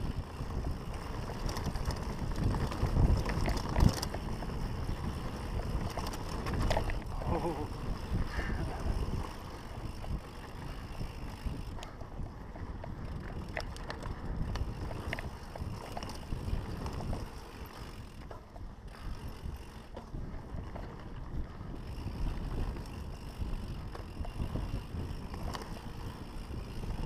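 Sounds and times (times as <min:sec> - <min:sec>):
bike rattles and clicks: 0:00.0 - 0:27.0
wind rumbling on microphone: 0:00.0 - 0:27.0.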